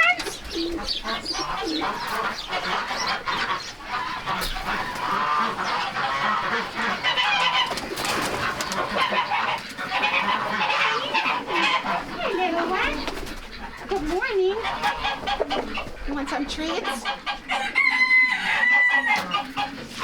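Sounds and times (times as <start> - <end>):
hens clucking: 0.0 - 20.0
poultry calling: 0.0 - 20.0.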